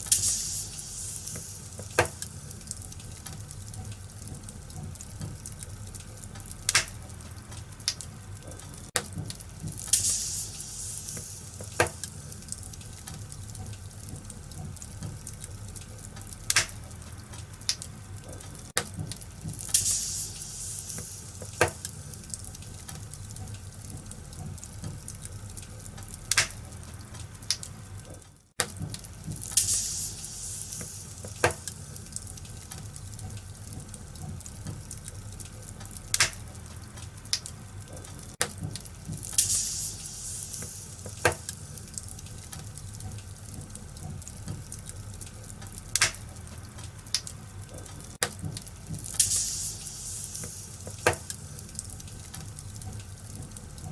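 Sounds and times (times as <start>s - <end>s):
sharp pops of fire: 0.0s - 4.6s, 6.4s - 14.4s, 16.2s - 24.2s, 24.9s - 27.7s, 28.6s - 33.2s, 34.6s - 47.4s, 48.2s - 53.4s
wood fire crackling: 0.0s - 53.9s.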